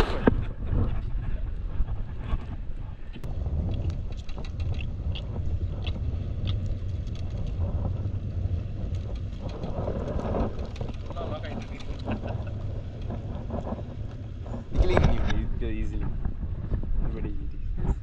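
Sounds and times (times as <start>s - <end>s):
boat low rumble: 0.0s - 18.0s.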